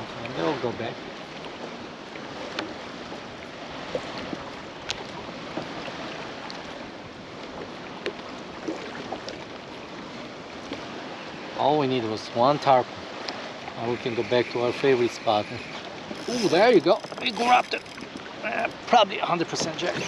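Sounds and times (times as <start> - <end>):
water washing around kayak: 0.0 - 20.0
wind: 0.0 - 20.0.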